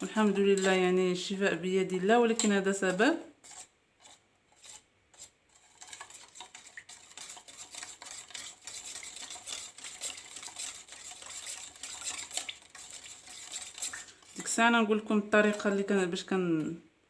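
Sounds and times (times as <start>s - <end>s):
spoon stirring and scraping: 0.0s - 16.7s.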